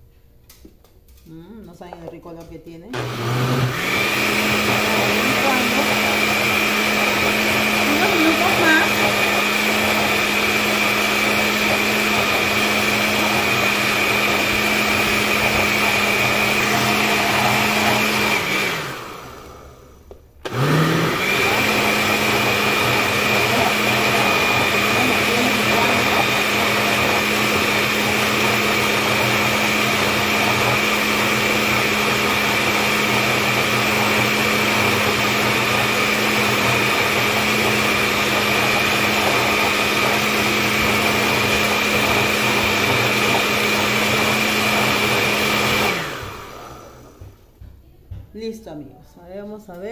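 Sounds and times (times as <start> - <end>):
blender motor whine: 3.0 - 47.4.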